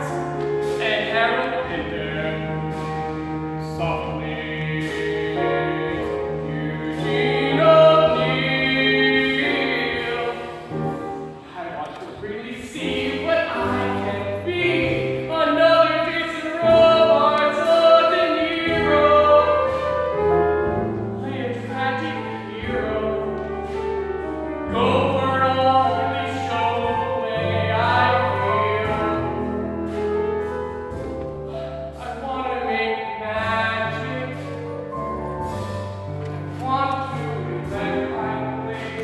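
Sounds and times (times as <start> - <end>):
man singing: 0.0 - 23.8, 24.7 - 30.0, 31.5 - 35.4, 36.1 - 39.0
instrumental accompaniment: 0.0 - 39.0.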